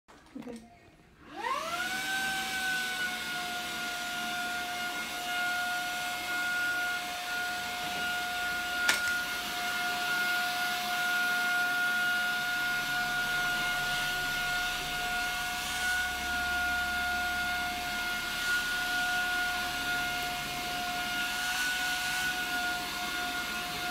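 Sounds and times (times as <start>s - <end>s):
vacuum cleaner running: 1.2s - 23.9s.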